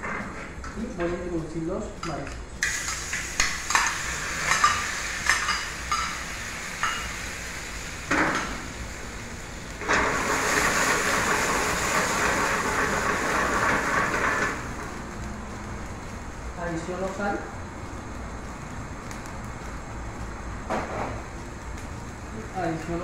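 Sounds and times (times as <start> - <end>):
seafood sizzling in frying pan: 2.6 - 23.0.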